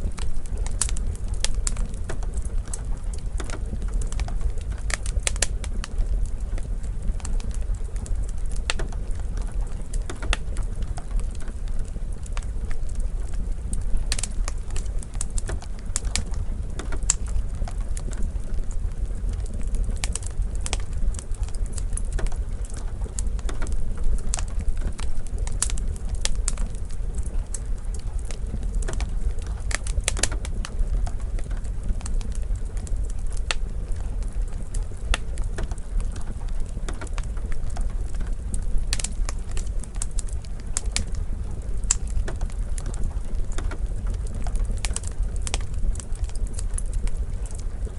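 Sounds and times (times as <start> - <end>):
soft rain hiss: 0.0 - 47.9
wood fire crackling: 0.0 - 47.9.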